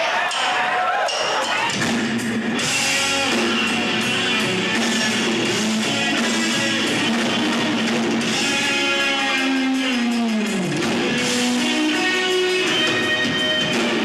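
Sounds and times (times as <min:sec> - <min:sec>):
live rock band playing: 0:01.0 - 0:14.0
electric guitar: 0:01.7 - 0:14.0.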